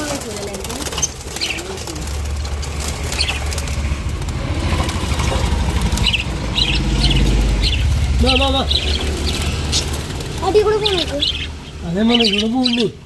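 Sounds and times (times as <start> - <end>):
lovebirds chirping: 0.0 - 13.0
low rumble: 1.2 - 11.7.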